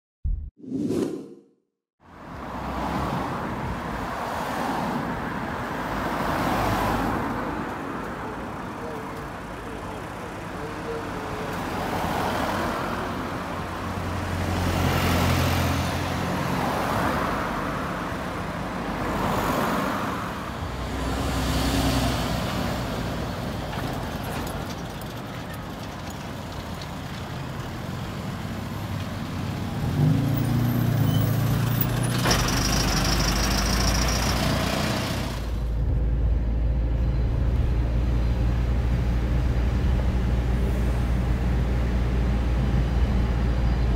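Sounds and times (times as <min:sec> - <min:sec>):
vehicles passing: 0:02.0 - 0:43.9.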